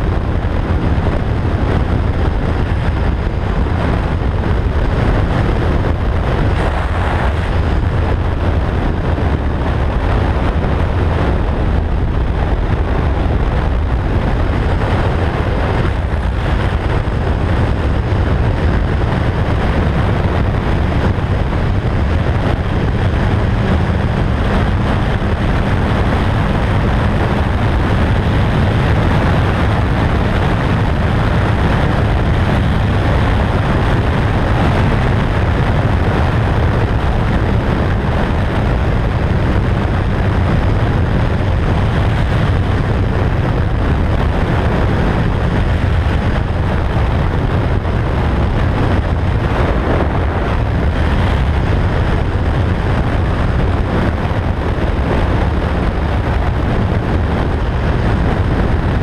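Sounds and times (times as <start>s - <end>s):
motorcycle engine drone: 0.0s - 59.0s
wind rush: 0.0s - 59.0s.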